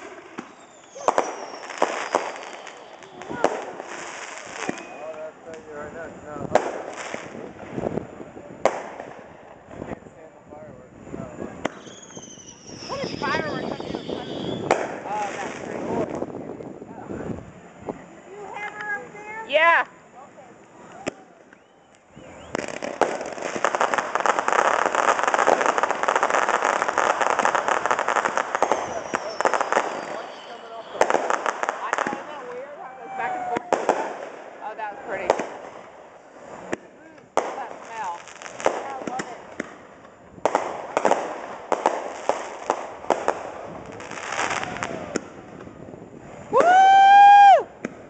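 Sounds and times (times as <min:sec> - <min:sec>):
loud firework cracks: 0:00.0 - 0:05.8, 0:06.4 - 0:08.0, 0:08.6 - 0:09.8, 0:11.5 - 0:16.4, 0:22.4 - 0:48.0
fireworks crackling: 0:00.0 - 0:48.0.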